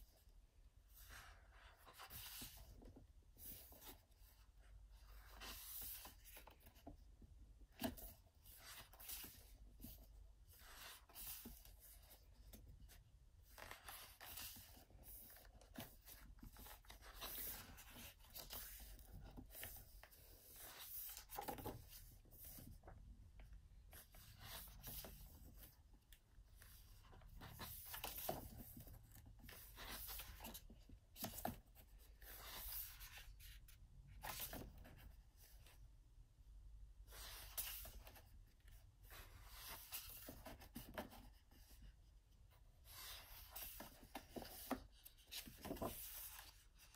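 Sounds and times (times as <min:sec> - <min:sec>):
pages turning and rustling: 0:00.9 - 0:07.0, 0:07.6 - 0:35.8, 0:37.1 - 0:41.9, 0:42.8 - 0:46.9.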